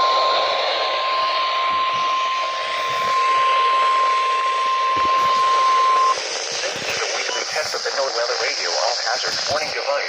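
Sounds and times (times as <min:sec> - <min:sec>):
steady alarm tone: 0:00.0 - 0:10.0
radio static: 0:01.6 - 0:10.0.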